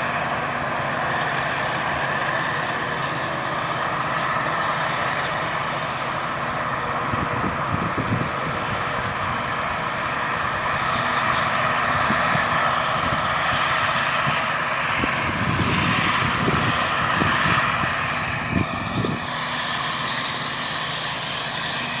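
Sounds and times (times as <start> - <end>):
forage harvester running: 0.0 - 22.0.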